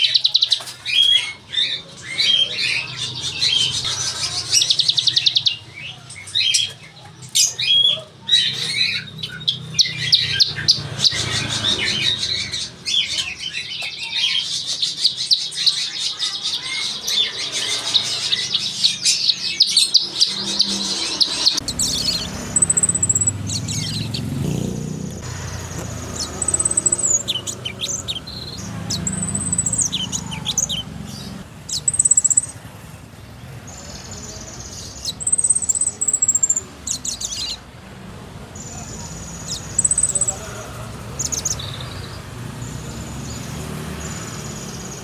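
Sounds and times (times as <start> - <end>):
caged songbirds singing: 0.0 - 45.0.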